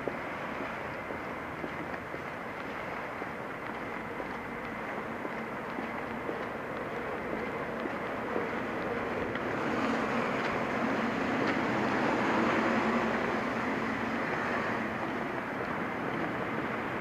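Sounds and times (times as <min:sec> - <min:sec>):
vehicles passing on wet road: 0:00.0 - 0:17.0.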